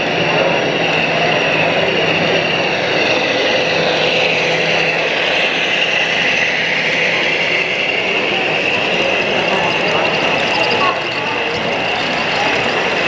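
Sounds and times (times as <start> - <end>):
model train mechanical hum: 0.0 - 13.0
wavering high whine: 0.0 - 13.0.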